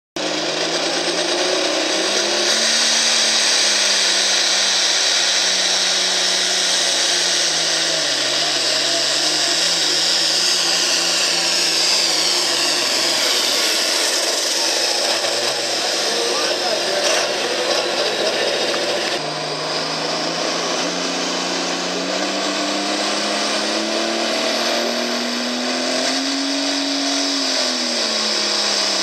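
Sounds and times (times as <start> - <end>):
diesel tractor engine at full power: 0.2 - 29.0.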